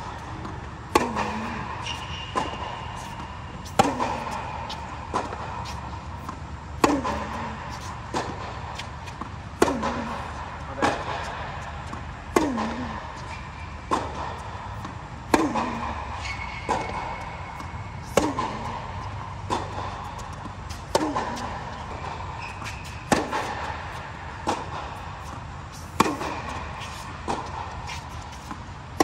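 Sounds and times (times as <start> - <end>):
steady low hum: 0.0 - 29.0
tennis ball bouncing: 0.0 - 29.0
tennis racket hitting ball: 0.0 - 29.0.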